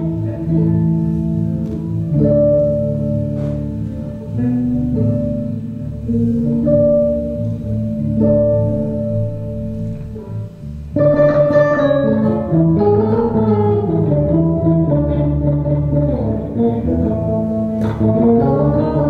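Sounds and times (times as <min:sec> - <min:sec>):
electric bass guitar solo: 0:00.0 - 0:19.0.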